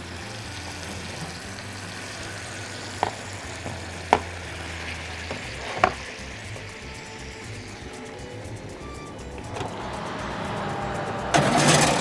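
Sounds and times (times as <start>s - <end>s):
fish sizzling in a frying pan: 0.0s - 11.3s.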